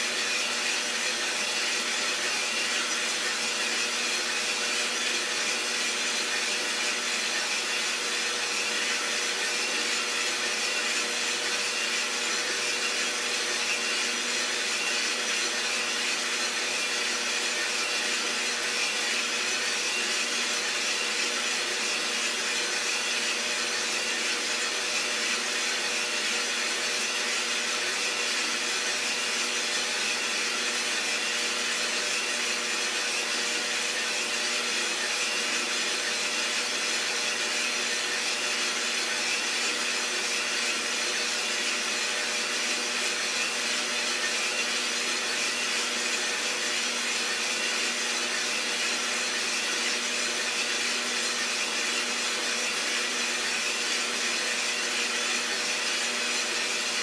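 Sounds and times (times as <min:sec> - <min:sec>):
roasting machine motor and fan whir: 0:00.0 - 0:57.0.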